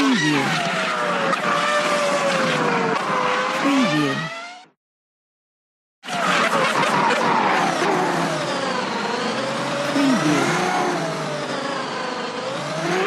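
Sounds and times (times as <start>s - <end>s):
race car engines at high revs: 0.0s - 4.8s, 6.0s - 13.0s.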